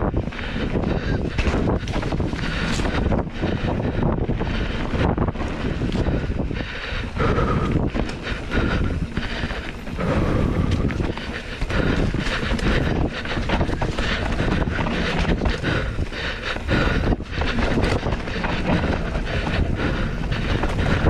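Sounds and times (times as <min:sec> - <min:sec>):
bike rattling over bumps: 0:00.0 - 0:21.0
bike tyres on loose dirt: 0:00.0 - 0:21.0
wind buffeting microphone: 0:00.0 - 0:21.0.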